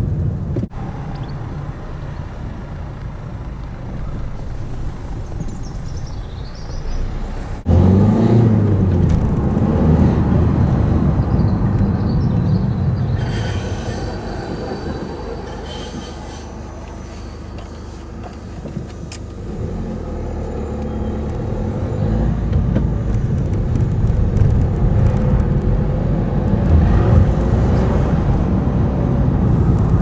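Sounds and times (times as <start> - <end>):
car pulling away: 0.0 - 30.0.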